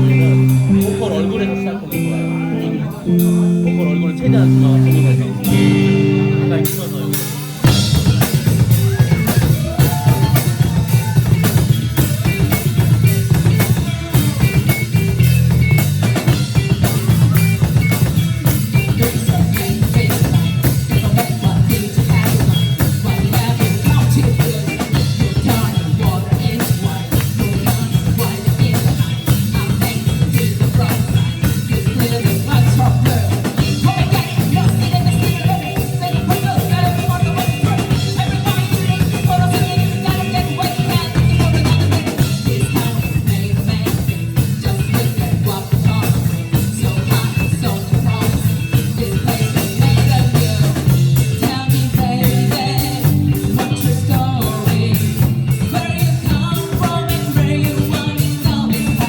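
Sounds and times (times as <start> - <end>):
live rock band playing: 0.0 - 59.0
sung melody: 0.0 - 59.0.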